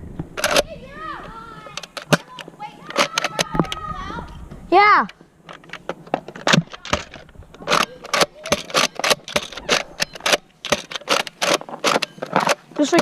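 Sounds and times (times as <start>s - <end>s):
plastic clicks and rattles: 0.4s - 3.8s, 5.0s - 13.0s.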